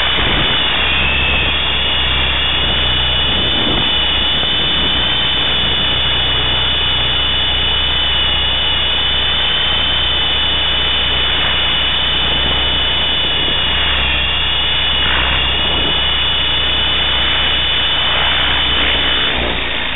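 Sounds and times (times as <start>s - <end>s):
rc helicopter motor whine: 0.0s - 19.9s
rotor blades rushing: 0.0s - 19.9s.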